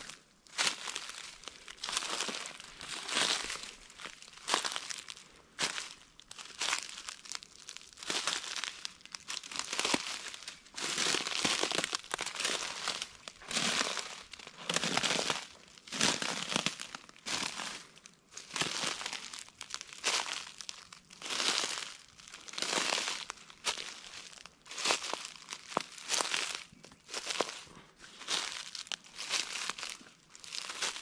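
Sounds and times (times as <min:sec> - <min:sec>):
footsteps crunching dry leaves: 0:00.0 - 0:31.0.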